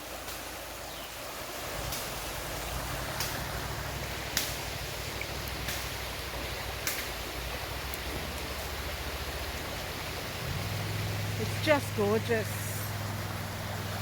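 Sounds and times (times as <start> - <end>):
creek running over sand: 0.0 - 14.0.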